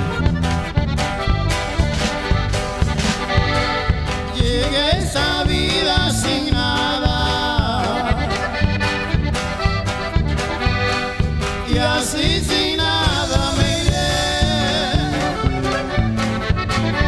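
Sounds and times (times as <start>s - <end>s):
accordion trilling melody: 0.0s - 17.0s
bass and drum beat: 0.0s - 17.0s.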